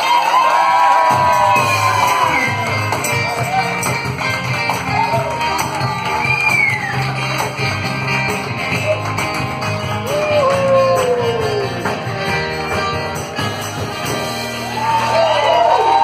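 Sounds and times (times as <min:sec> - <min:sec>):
audience clapping along: 0:00.0 - 0:16.0
drums: 0:00.0 - 0:16.0
guitars: 0:00.8 - 0:16.0.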